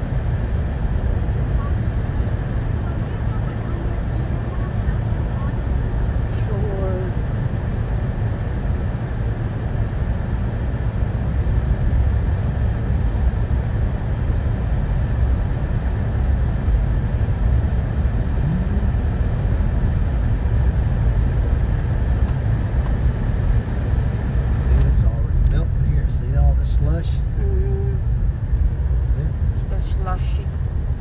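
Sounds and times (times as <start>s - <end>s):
car engine rumble: 0.0s - 31.0s
tyres on snowy road: 0.0s - 31.0s.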